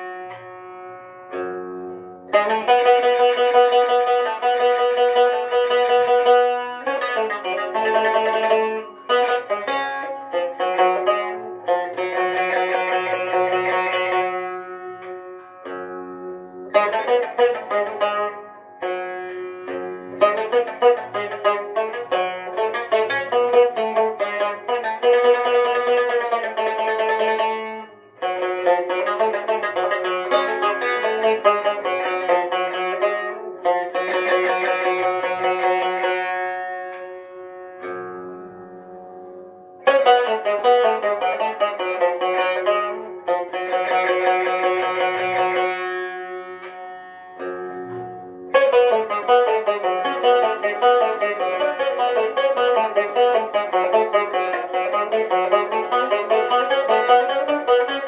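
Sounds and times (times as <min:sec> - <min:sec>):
plucked string instrument melody: 0:00.0 - 0:58.0.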